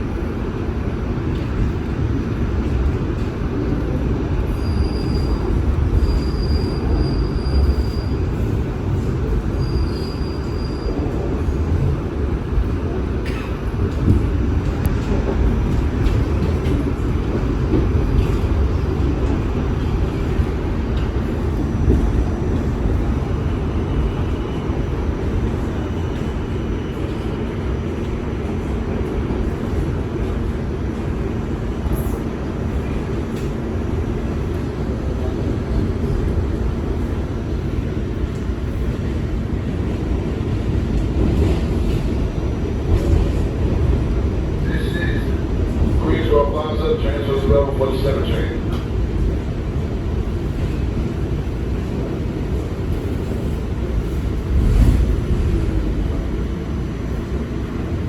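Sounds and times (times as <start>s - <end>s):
subway train rumble: 0.0s - 58.0s.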